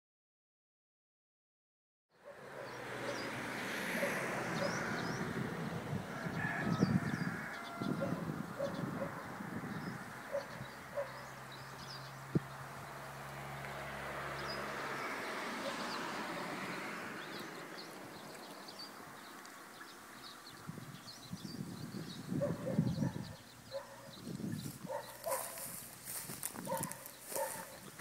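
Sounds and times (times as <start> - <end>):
outdoor ambience: 2.2 - 28.0
small birds chirping: 4.0 - 5.4, 6.5 - 28.0.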